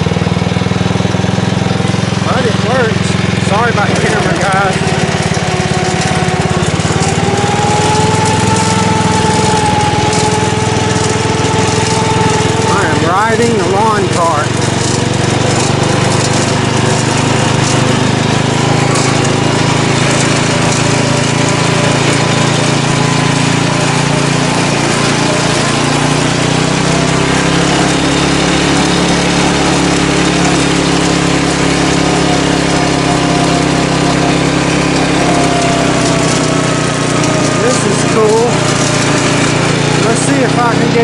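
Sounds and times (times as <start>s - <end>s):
small go-kart engine running: 0.0s - 41.0s.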